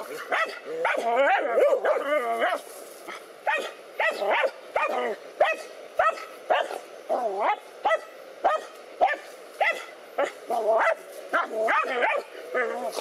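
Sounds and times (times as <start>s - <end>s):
dogs barking: 0.0s - 13.0s
dog yelping: 0.2s - 2.6s, 3.5s - 13.0s.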